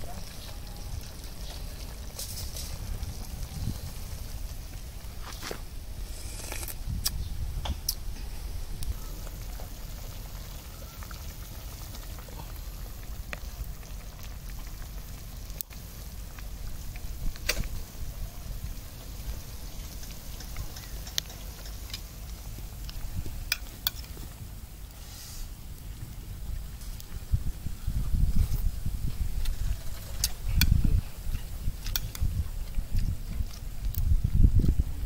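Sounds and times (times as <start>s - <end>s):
soup simmering: 0.0s - 6.8s, 8.5s - 34.8s.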